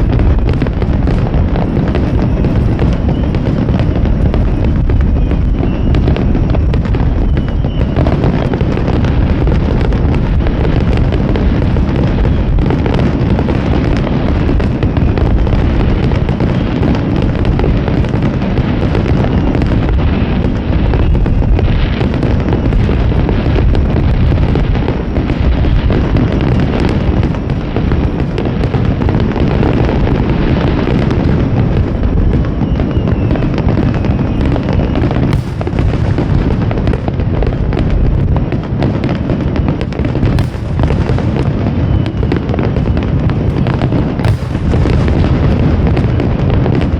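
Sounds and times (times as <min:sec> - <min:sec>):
fireworks booming and crackling: 0:00.0 - 0:46.9.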